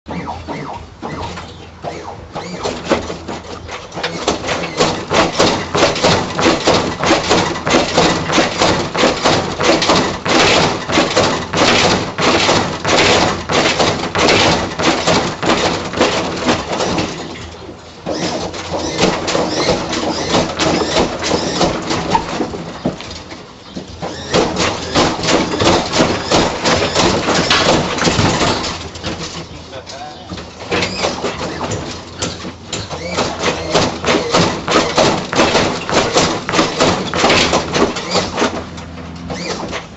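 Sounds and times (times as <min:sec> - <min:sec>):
car suspension clanking and creaking: 0:00.1 - 0:39.9.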